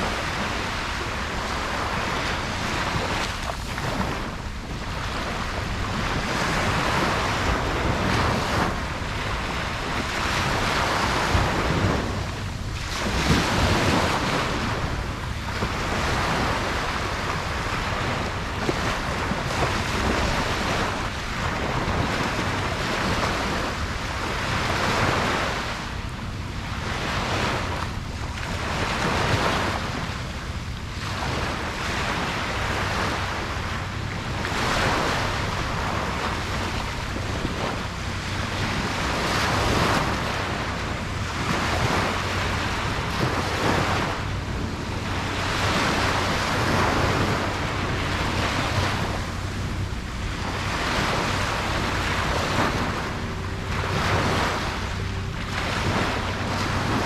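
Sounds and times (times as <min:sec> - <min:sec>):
ocean waves breaking on beach: 0:00.0 - 0:57.0
wind buffeting microphone: 0:00.0 - 0:57.0.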